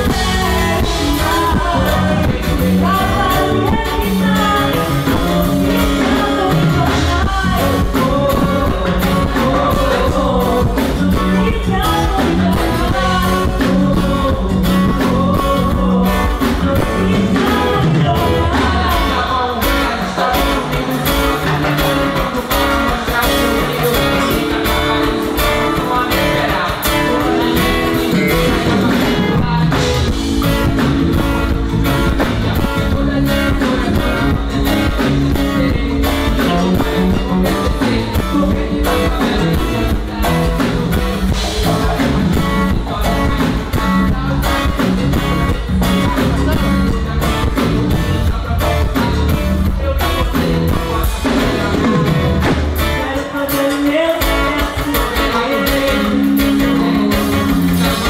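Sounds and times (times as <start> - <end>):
live band with singing: 0.0 - 58.0.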